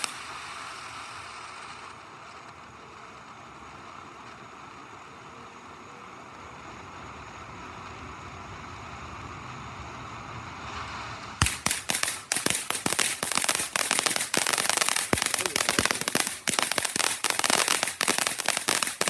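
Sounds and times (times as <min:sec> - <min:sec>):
firework crackling pops: 0:00.0 - 0:19.0
firework fountain hissing: 0:00.0 - 0:19.0.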